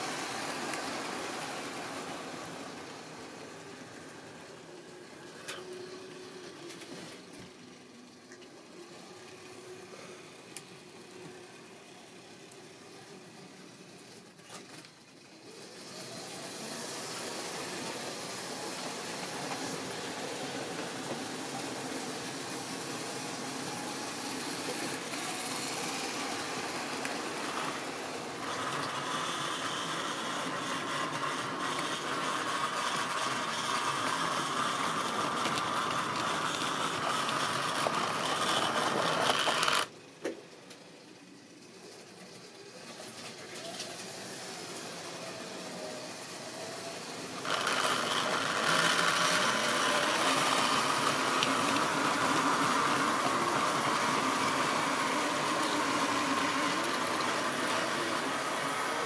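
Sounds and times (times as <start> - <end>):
model train motor whirring: 0.0 - 40.1, 40.7 - 59.0.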